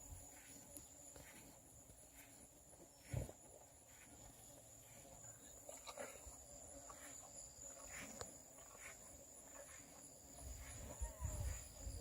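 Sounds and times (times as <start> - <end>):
soft ticks and rustles: 0.0 - 6.1, 6.8 - 11.7
high-pitched insect trill: 0.0 - 12.0.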